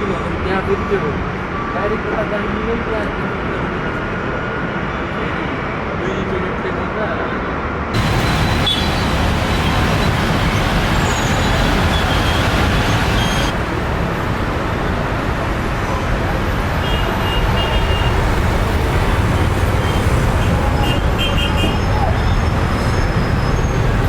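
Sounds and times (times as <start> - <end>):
engines rumbling: 0.0 - 24.0.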